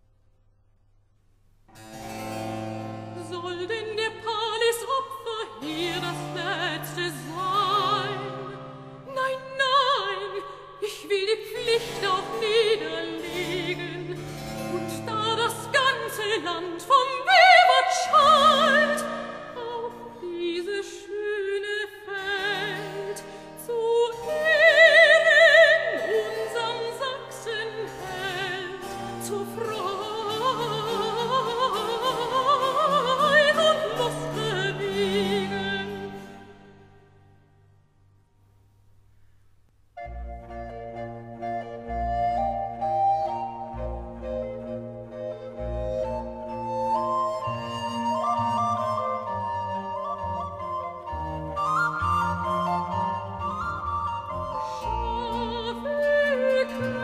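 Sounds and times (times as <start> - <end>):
soprano singing with vibrato: 3.2 - 36.7, 42.3 - 57.0.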